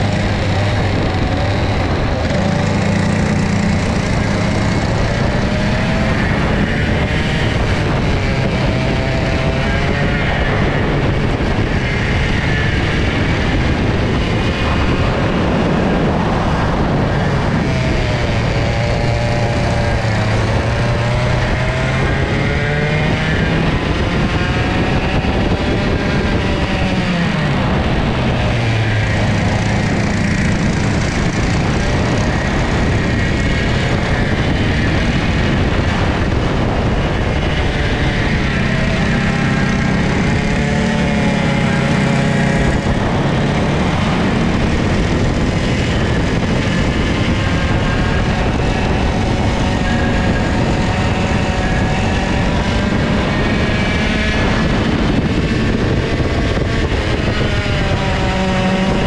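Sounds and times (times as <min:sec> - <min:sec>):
kart engine revving: 0:00.0 - 0:59.0
rushing noise: 0:00.0 - 0:59.0.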